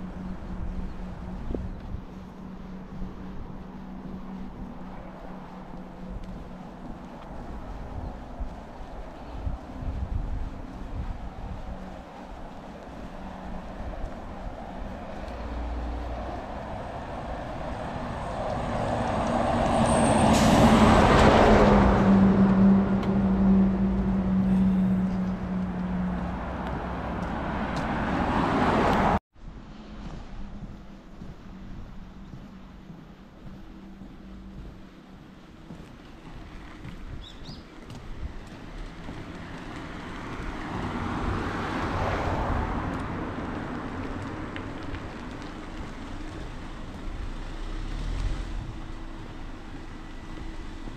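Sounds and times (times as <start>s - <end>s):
heavy truck passing: 0.0s - 50.9s.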